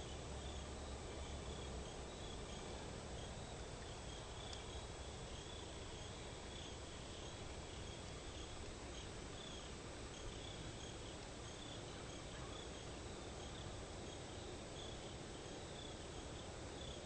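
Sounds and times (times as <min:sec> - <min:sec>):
background hiss: 0:00.0 - 0:17.0
cricket chirping: 0:00.0 - 0:17.0.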